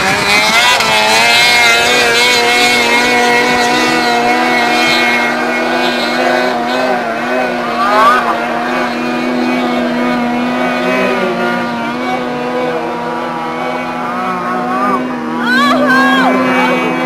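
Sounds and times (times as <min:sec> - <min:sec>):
snowmobile engine whining at high revs: 0:00.0 - 0:17.0.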